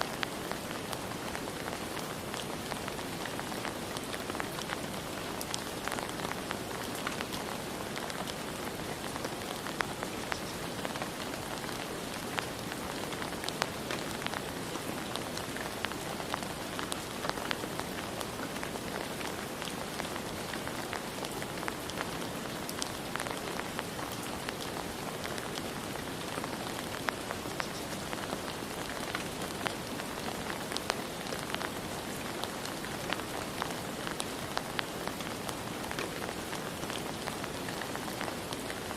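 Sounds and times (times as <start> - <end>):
raindrops tapping: 1.4 - 38.9.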